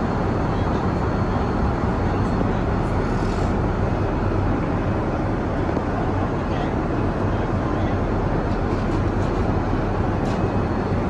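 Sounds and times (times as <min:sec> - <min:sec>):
airflow and engine rush: 0:00.0 - 0:11.0.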